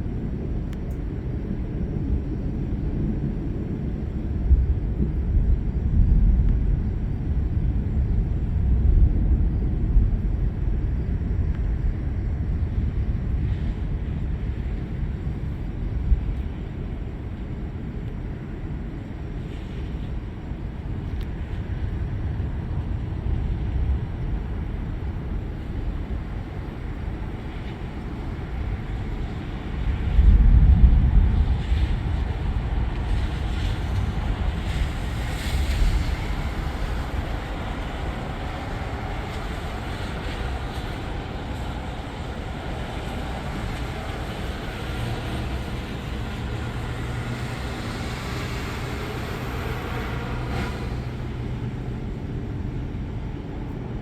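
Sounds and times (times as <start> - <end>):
thunder rumbling: 0.0 - 54.0.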